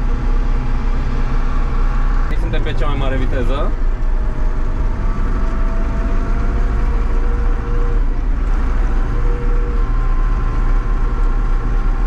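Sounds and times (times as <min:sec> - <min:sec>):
diesel tractor engine droning: 0:00.0 - 0:12.0.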